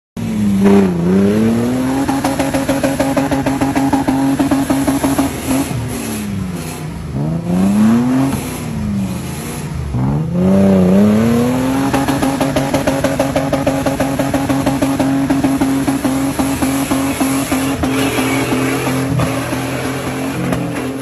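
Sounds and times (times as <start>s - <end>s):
car engine revving: 0.2s - 21.0s.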